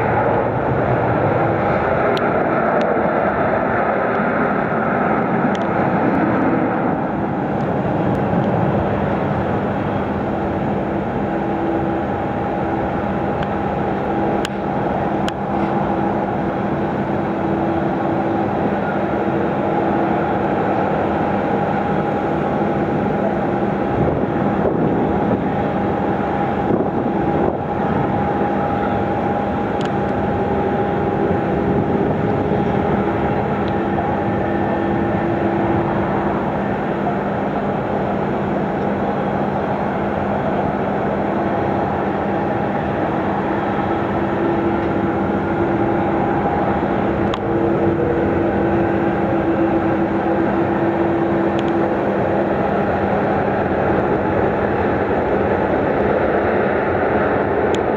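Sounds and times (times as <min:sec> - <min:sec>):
jet engines rumbling and whining: 0:00.0 - 0:57.9.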